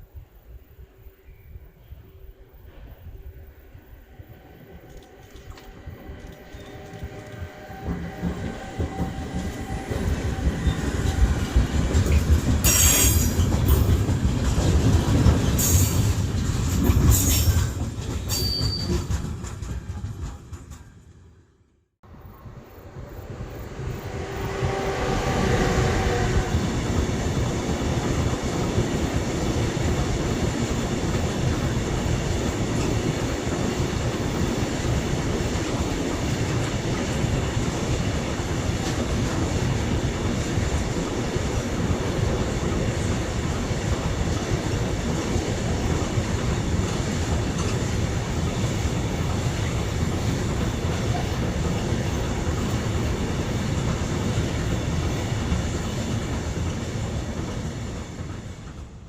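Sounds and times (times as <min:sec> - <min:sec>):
train wheels on rails: 0:01.9 - 0:59.0
clickety-clack at rail joints: 0:04.6 - 0:21.3, 0:22.7 - 0:59.0.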